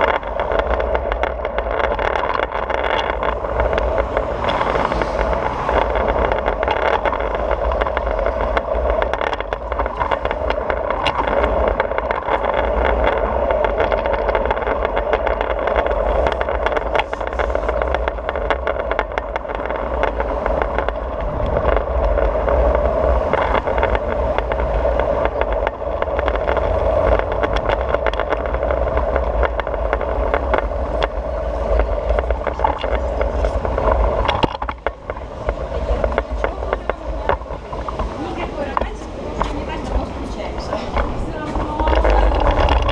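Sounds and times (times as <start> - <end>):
scooter wheels rolling on paving: 0.0 - 42.9
wheels clicking over slab joints: 0.0 - 42.9.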